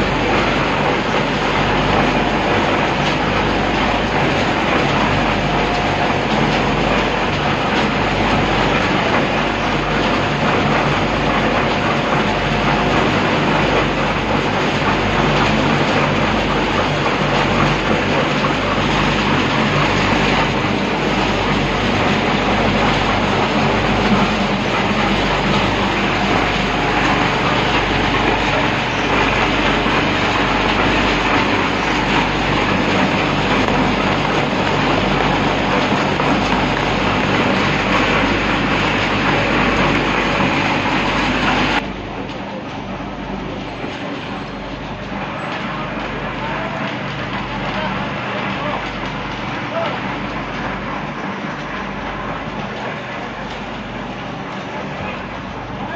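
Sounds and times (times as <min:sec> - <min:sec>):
concrete mixer rattling: 0:00.0 - 0:55.9.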